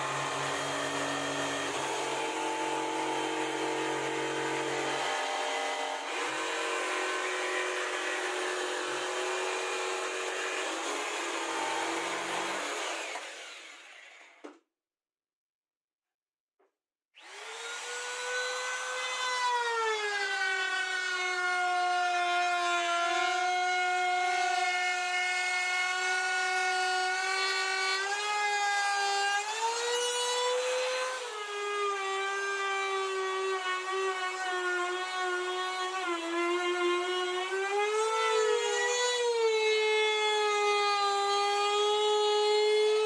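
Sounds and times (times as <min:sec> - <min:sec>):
trim router whining: 0:00.0 - 0:14.5, 0:17.2 - 0:43.0.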